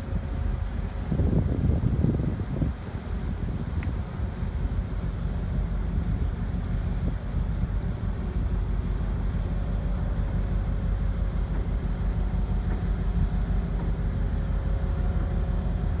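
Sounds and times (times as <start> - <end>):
low steady engine drone: 0.0 - 16.0
wind buffeting microphone: 0.0 - 16.0.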